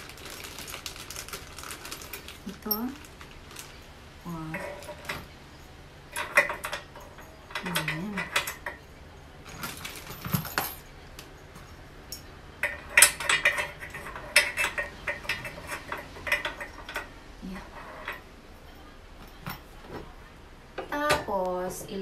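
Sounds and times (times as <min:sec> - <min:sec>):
metal parts clinking on steel frame: 0:00.4 - 0:18.3.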